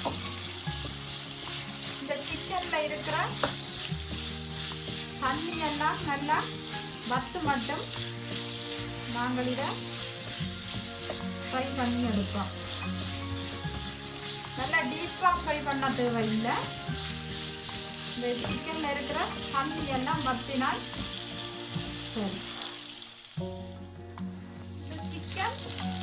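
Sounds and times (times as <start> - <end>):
wooden spatula stirring: 0.0 - 22.9
chicken sizzling in hot oil: 0.0 - 26.0.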